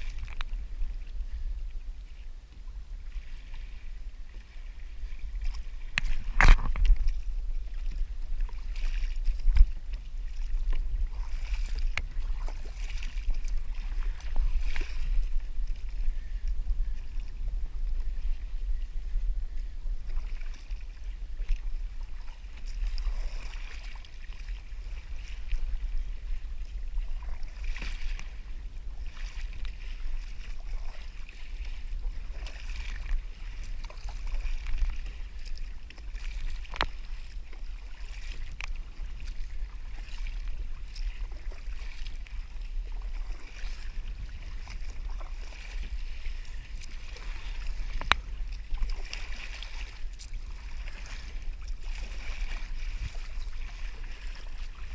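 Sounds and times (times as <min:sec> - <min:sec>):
water lapping against kayak hull: 0:00.0 - 0:54.9
wind rumble on microphone: 0:00.0 - 0:54.9.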